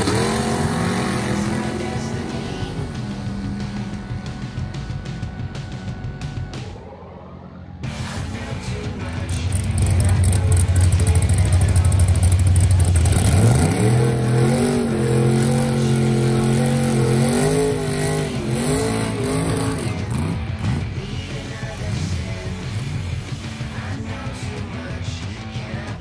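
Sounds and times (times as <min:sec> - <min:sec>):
drag car engine revving: 0:00.0 - 0:26.0.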